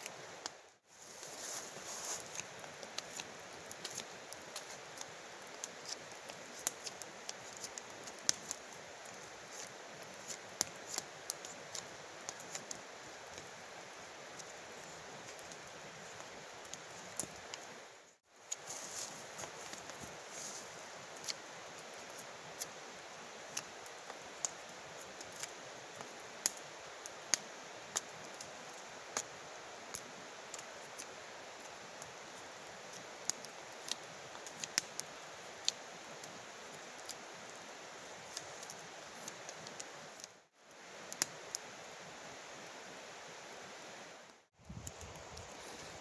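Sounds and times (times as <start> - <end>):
steady hiss: 0.0 - 46.0.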